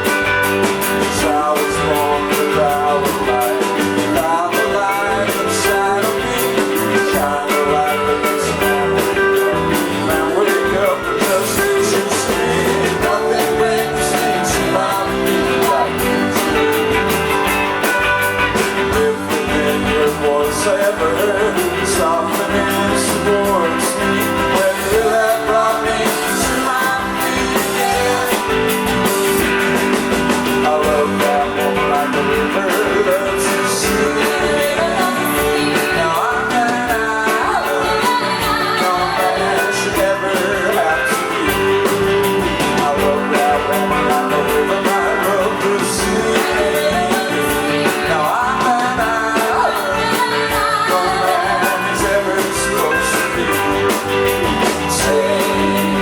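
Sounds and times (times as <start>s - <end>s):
drums: 0.0s - 56.0s
electric guitars: 0.0s - 56.0s
person singing: 0.0s - 56.0s.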